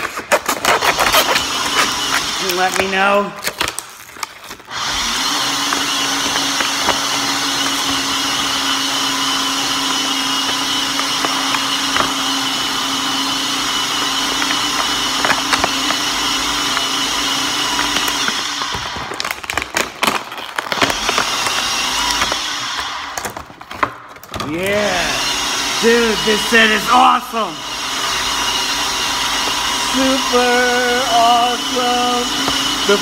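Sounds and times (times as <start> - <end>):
blender running: 0.0 - 33.0.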